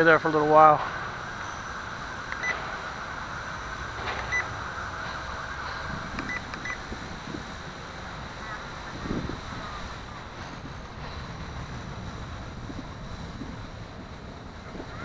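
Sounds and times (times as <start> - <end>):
wind: 0.0 - 15.0
quadcopter hovering: 1.4 - 15.0.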